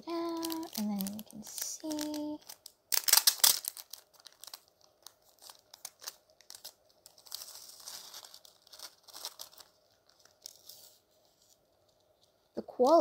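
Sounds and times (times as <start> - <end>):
packaging tearing: 0.0 - 12.4
packaging crinkling and rustling: 0.0 - 12.6.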